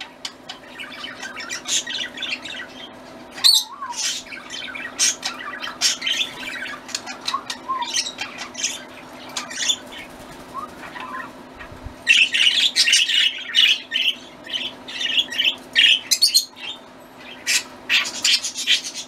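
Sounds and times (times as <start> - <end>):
budgerigars chirping and squawking: 0.0 - 19.0
steady low hum: 0.0 - 19.0.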